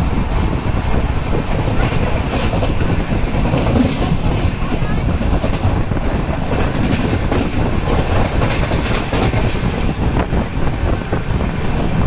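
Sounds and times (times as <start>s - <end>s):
rail joint clicks: 0.0s - 12.0s
train wheels rumbling on rails: 0.0s - 12.0s.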